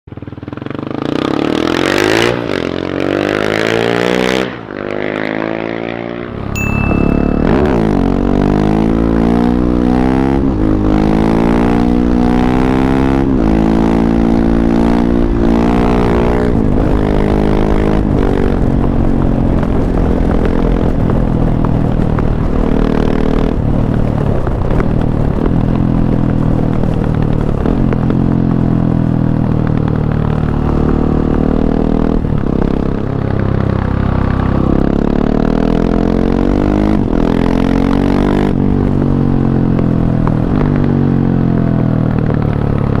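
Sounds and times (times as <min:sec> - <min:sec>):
motorcycle engine accelerating: 0:00.1 - 0:43.0.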